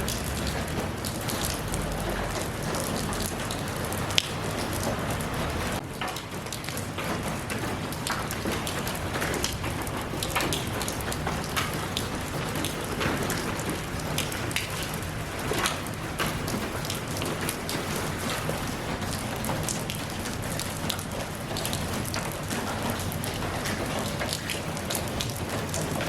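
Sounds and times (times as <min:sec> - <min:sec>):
raindrops tapping on a surface: 0:00.0 - 0:26.0.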